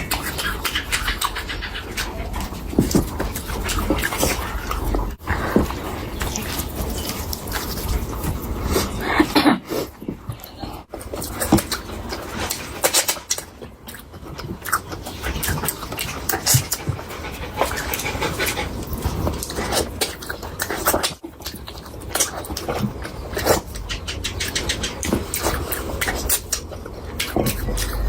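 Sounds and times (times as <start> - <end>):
chewing and lip-smacking: 0.0 - 28.0.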